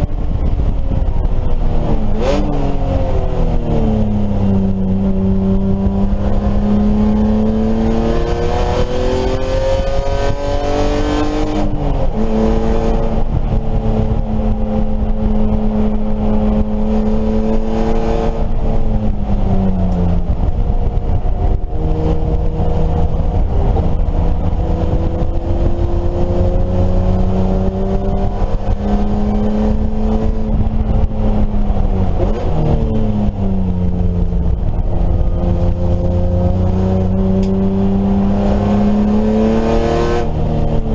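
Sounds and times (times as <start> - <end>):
race car engine accelerating: 0.0 - 40.9.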